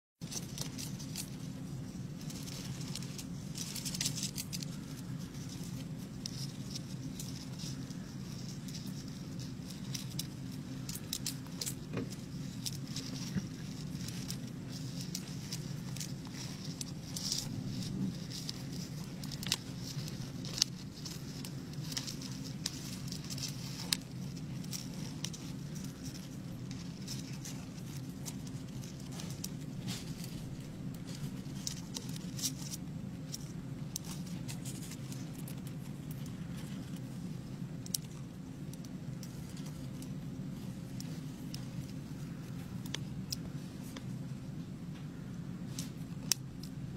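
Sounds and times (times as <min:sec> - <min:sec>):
scorpion and insects scrabbling: 0:00.2 - 0:46.9
steady low hum: 0:00.2 - 0:46.9.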